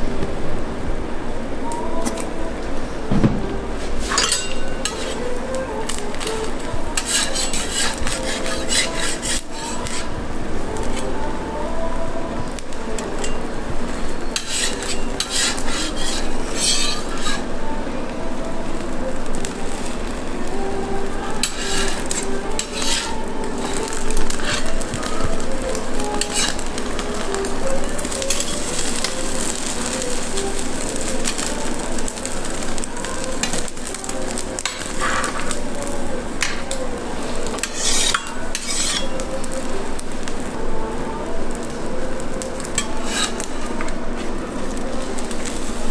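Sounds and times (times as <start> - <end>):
food sizzling on griddle: 3.6 - 45.9
metal utensils scraping griddle: 3.8 - 11.2, 12.5 - 17.6, 19.6 - 40.4, 41.6 - 45.9.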